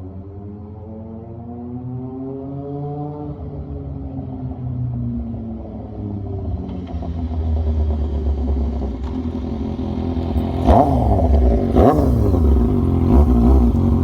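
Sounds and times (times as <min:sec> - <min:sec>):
engine running and revving: 0:00.1 - 0:14.0.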